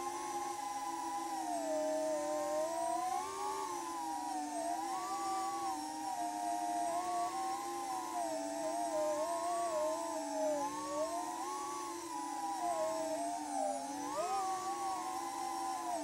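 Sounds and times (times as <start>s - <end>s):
quadcopter propellers whining: 0.0s - 16.0s.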